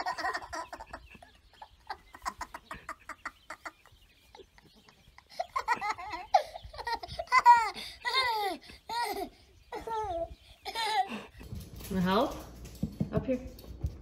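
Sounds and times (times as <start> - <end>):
toddler giggling: 0.0 - 11.4.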